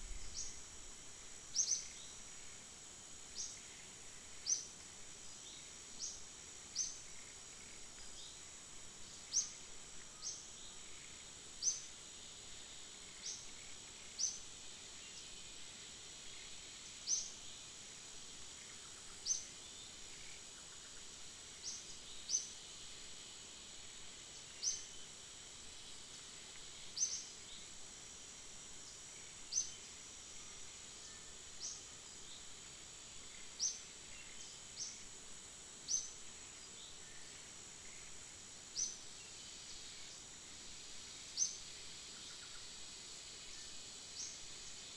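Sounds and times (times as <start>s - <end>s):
high insect drone: 0.0s - 44.9s.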